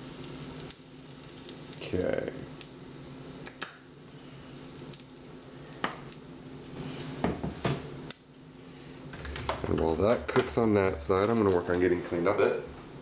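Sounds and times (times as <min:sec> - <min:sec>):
batter sizzling in a frying pan: 0:00.0 - 0:13.0.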